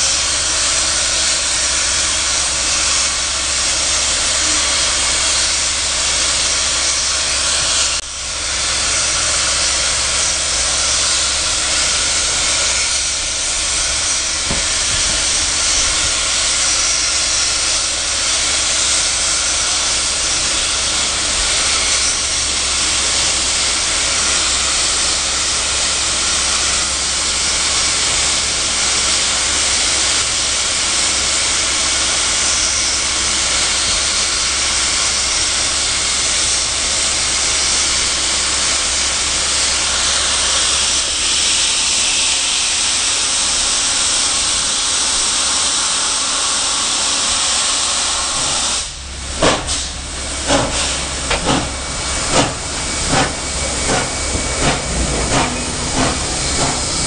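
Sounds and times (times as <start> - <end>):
steam hissing from locomotive: 0.0 - 57.0.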